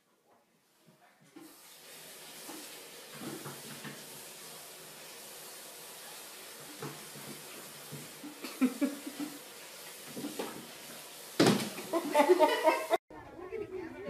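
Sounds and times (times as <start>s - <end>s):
steady hiss: 1.4s - 13.0s.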